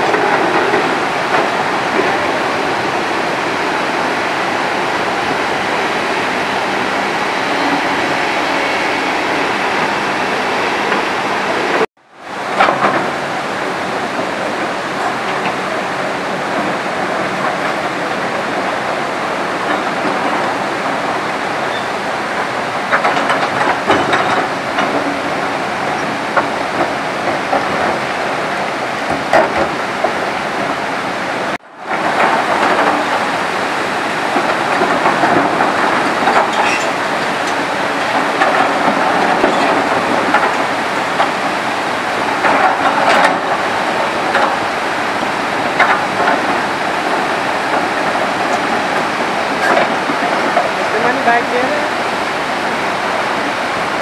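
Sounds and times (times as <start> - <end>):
hydraulic excavators running: 0.0 - 54.0
river rushing over boulders: 0.0 - 54.0.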